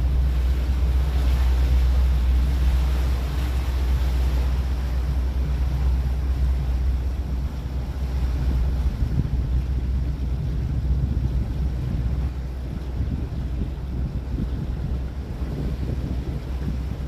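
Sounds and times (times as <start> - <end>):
boat engine drone: 0.0 - 17.0
rushing water: 0.0 - 17.0
wind: 0.0 - 17.0.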